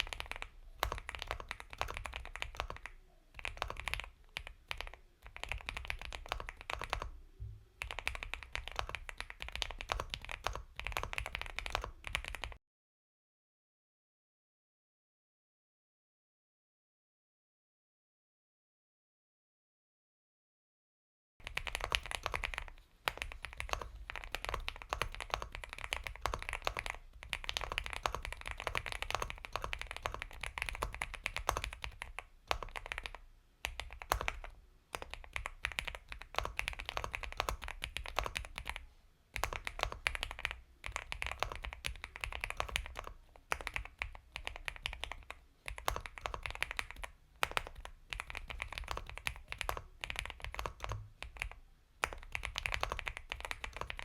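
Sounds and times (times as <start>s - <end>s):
mechanical keyboard typing: 0.0s - 7.2s, 7.8s - 12.6s, 21.4s - 38.8s, 39.4s - 54.0s.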